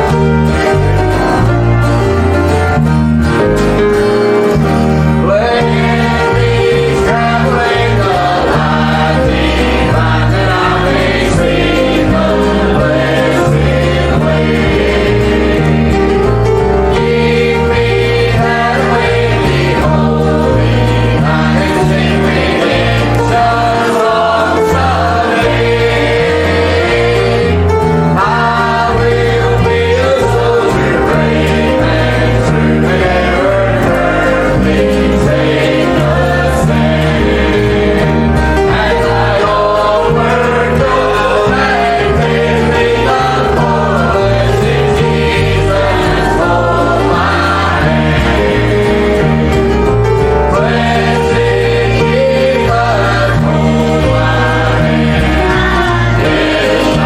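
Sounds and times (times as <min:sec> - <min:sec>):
choir singing a hymn: 0:00.0 - 0:57.0
instrumental accompaniment: 0:00.0 - 0:57.0.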